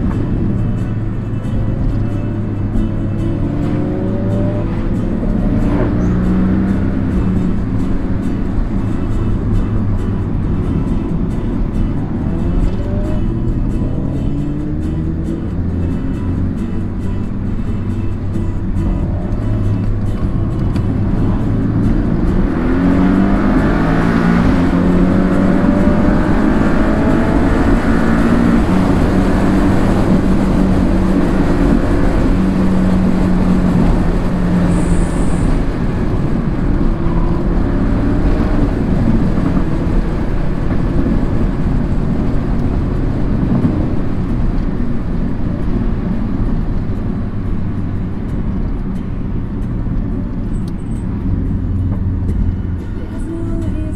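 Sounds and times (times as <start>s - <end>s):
car engine accelerating: 0.0s - 53.9s
road noise inside car cabin: 0.0s - 53.9s.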